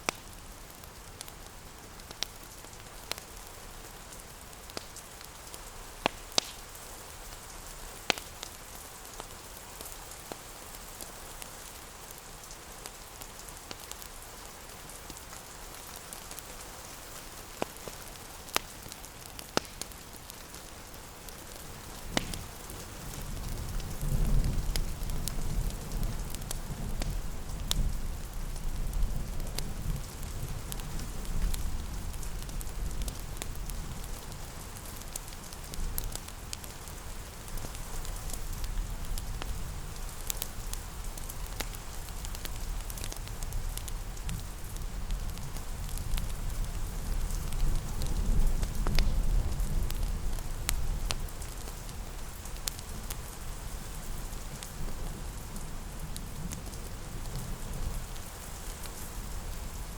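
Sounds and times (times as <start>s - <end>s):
fireplace crackling: 0.0s - 59.9s
rain pattering: 0.0s - 59.9s.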